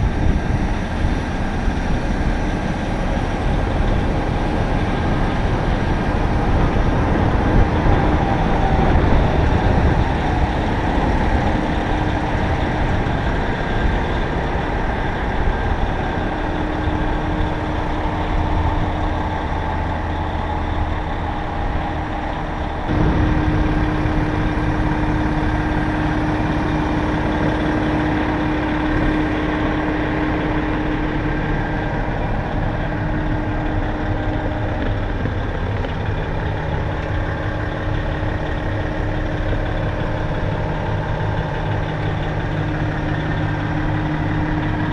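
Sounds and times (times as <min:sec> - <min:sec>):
dump truck diesel engine rumbling: 0:00.0 - 0:44.9.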